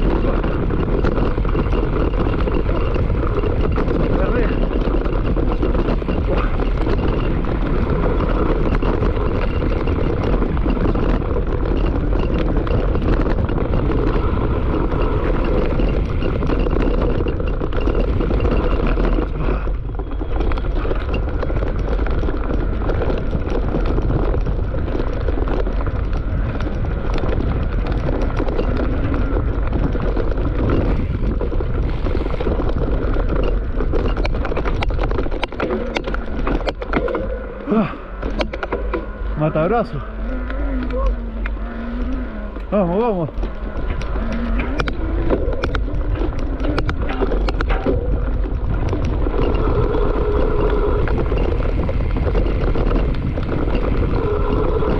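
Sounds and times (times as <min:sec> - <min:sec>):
bike clattering over bumps: 0:00.0 - 0:54.9
bike tyre noise on dirt: 0:00.0 - 0:54.9
wind rushing: 0:00.0 - 0:54.9.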